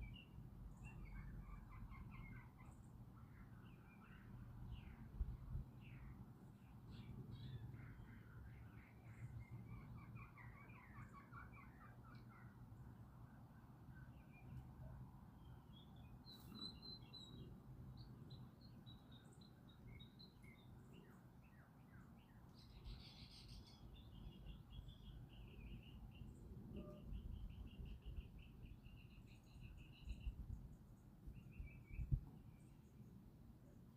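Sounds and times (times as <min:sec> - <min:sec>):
small birds chirping: 0:00.0 - 0:13.2, 0:13.8 - 0:33.9.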